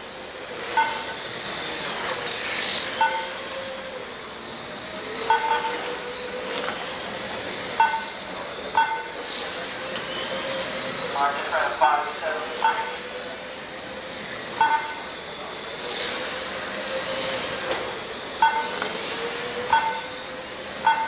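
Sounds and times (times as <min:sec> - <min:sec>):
rc car motors whining: 0:00.0 - 0:21.0.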